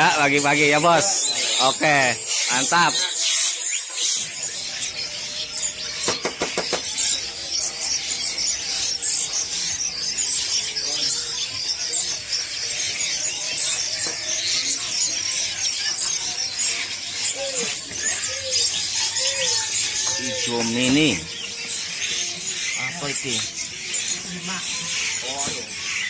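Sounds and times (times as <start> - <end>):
songbirds chirping and twittering: 0.0 - 26.0.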